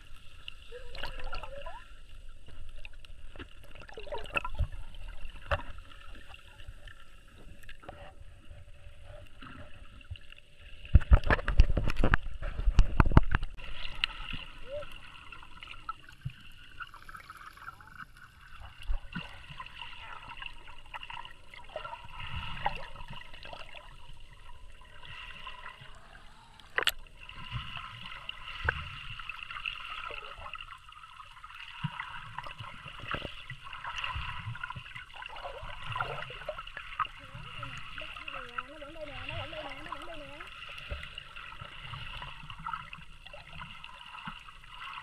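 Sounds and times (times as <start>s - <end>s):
muffled underwater rumble: 0.0s - 29.3s, 31.8s - 45.0s.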